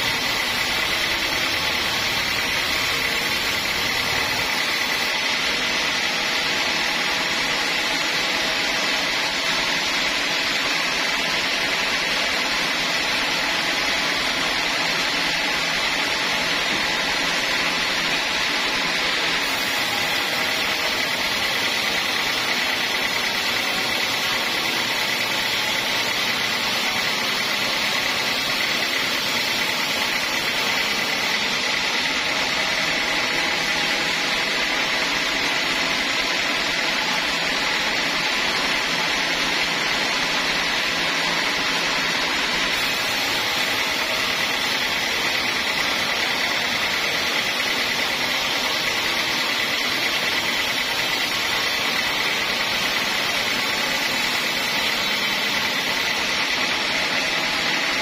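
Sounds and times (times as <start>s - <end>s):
band sawmill sawing log: 0.0s - 58.0s.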